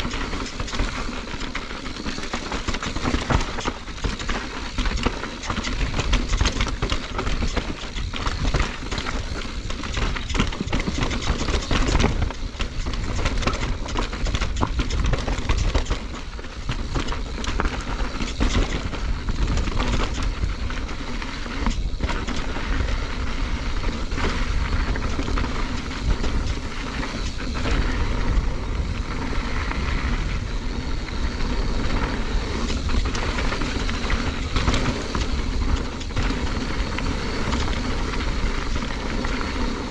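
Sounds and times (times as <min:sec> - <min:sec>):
bike clattering: 0:00.0 - 0:39.9
tyres rolling over gravel: 0:00.0 - 0:39.9
wind rumble on microphone: 0:00.0 - 0:39.9.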